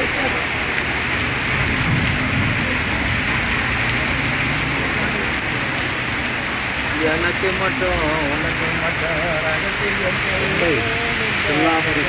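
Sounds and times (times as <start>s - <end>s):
heavy rain on wet street: 0.0s - 12.0s.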